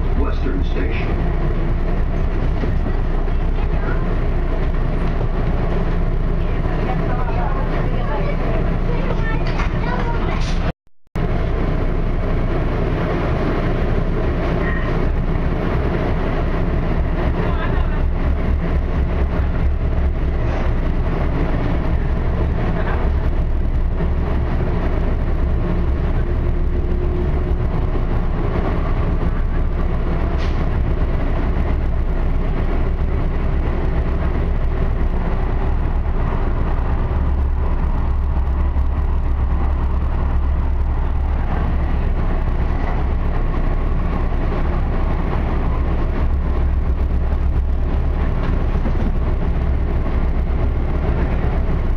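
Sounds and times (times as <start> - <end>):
light-rail train rumbling: 0.0 - 51.9.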